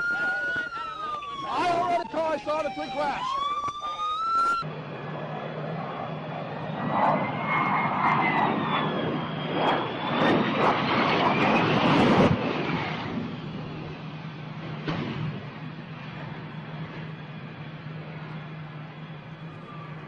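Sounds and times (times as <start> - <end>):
jet engine whine and rush: 0.0 - 20.0.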